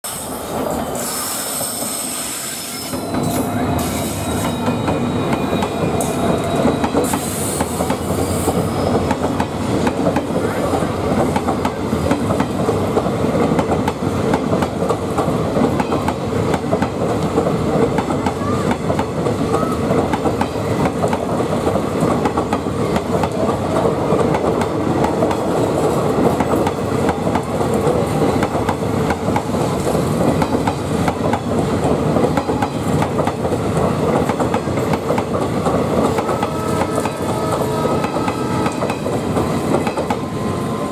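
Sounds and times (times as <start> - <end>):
diesel locomotive passing: 0.0 - 40.9
train wheels clickety-clack: 1.0 - 40.9.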